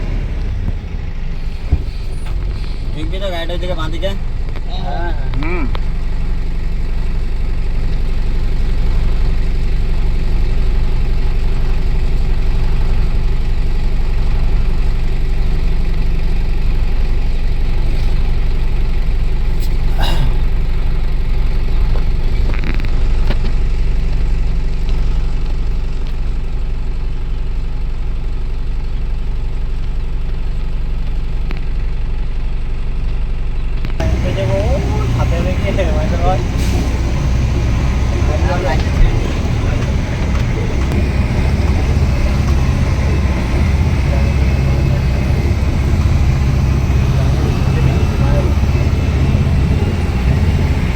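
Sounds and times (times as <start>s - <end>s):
heavy diesel engine rumbling: 0.0s - 50.9s.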